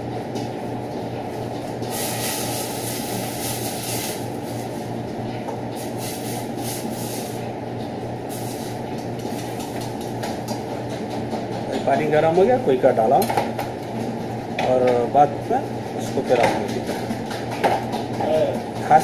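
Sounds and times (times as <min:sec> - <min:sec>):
extractor hood fan humming: 0:00.0 - 0:19.0.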